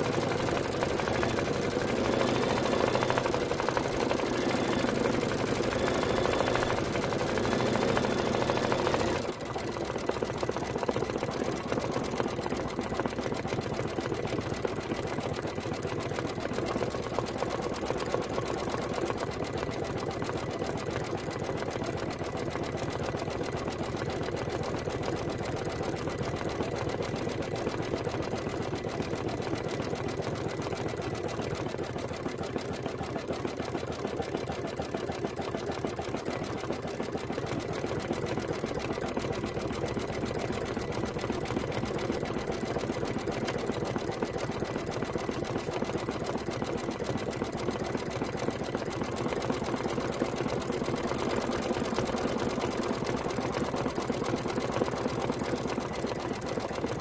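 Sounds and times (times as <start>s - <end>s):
embroidery machine stitching: 0.0s - 57.0s.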